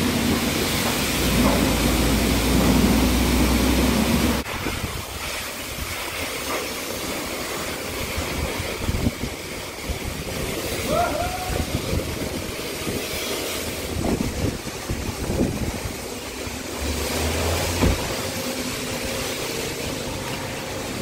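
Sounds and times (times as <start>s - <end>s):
pressure washer spraying water: 0.0s - 21.0s.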